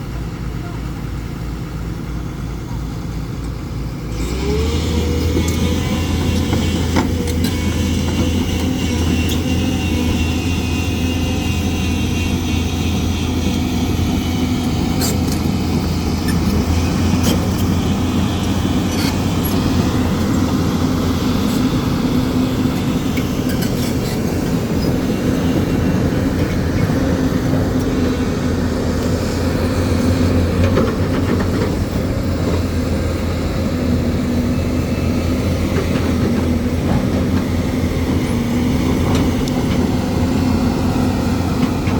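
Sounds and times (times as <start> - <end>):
excavator diesel engine drone: 0.0 - 41.9.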